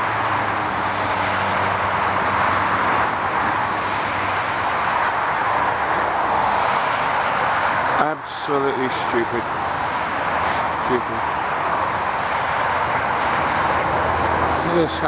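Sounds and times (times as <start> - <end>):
fast motorway traffic passing: 0.0 - 15.0.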